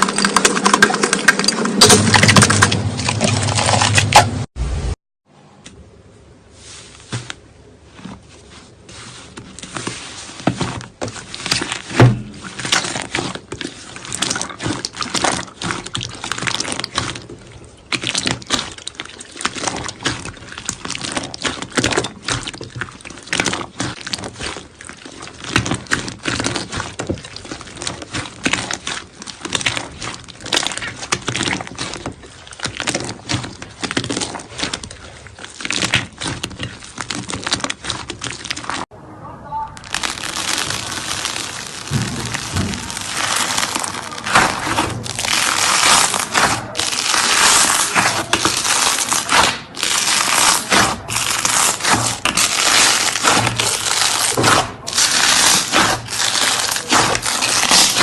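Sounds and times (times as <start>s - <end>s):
hands squeezing slime: 6.6s - 38.9s, 39.8s - 58.0s.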